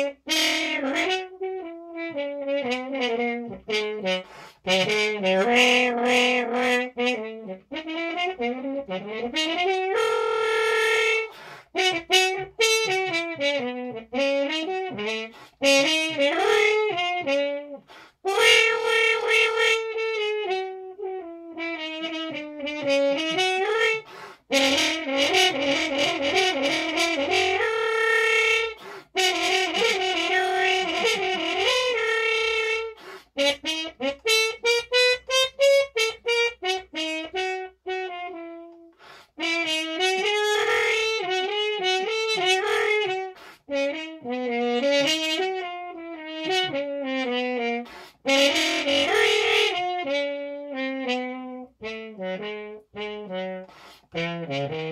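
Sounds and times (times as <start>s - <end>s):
muted french horn blues melody: 0.0s - 54.9s.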